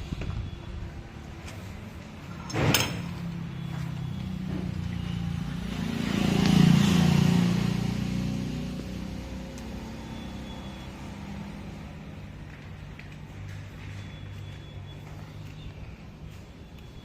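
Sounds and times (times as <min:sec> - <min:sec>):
vehicle engine: 0:00.0 - 0:17.0.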